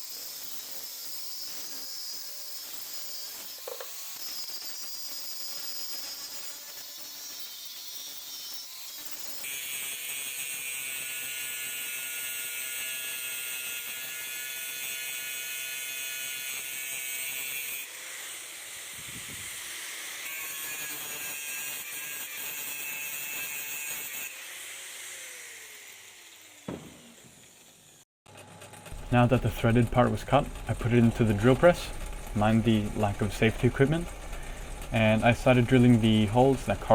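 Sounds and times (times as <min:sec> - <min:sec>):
power tool cutting steel: 0:00.0 - 0:36.9.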